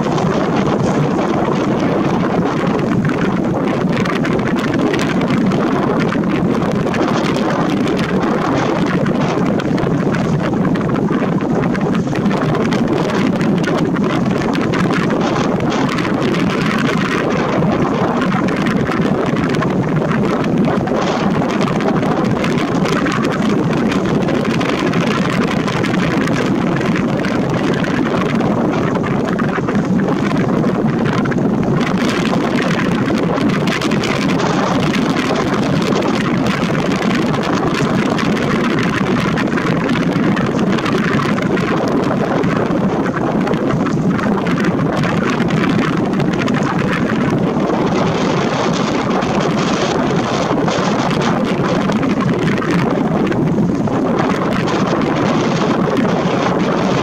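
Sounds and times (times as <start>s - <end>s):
wind blowing on microphone: 0.0s - 57.0s.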